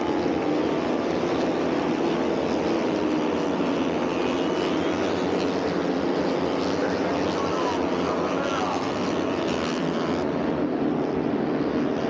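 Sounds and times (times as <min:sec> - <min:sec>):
race motorcycles droning: 0:00.0 - 0:12.0.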